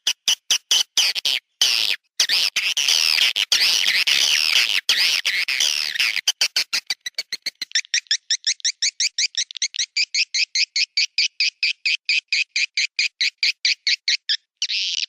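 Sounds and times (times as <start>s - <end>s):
high-pitched bird twittering: 0.7s - 15.0s.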